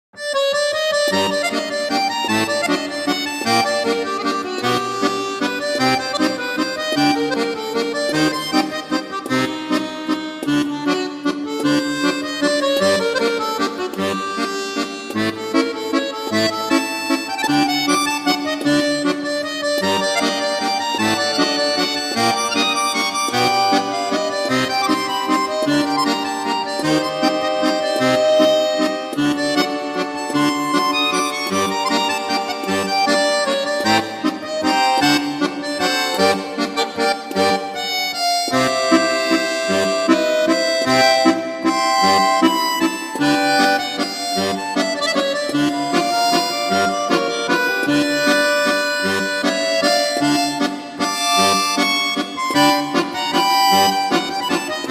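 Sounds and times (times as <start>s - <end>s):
instrumental music with bass beat: 0.2s - 54.9s.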